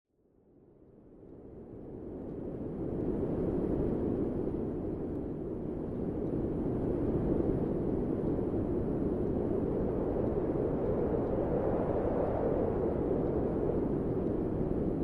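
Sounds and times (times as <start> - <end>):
low rushing wind: 1.0 - 15.0.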